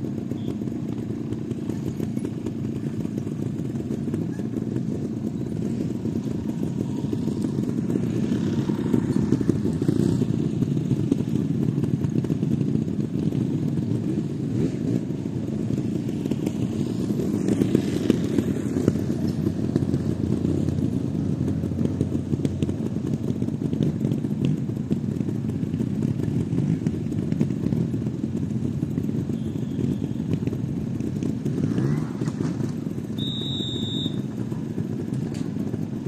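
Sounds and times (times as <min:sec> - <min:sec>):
motorcycle engines idling: 0:00.0 - 0:36.0.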